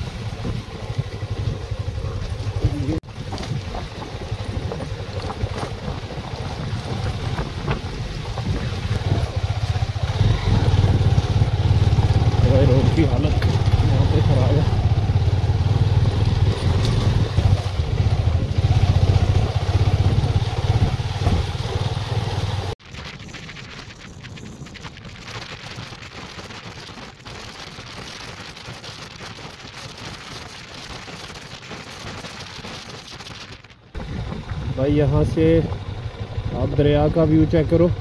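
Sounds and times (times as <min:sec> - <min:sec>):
motorcycle engine rumble: 0:00.0 - 0:38.0
wind and tyre hiss: 0:00.0 - 0:38.0.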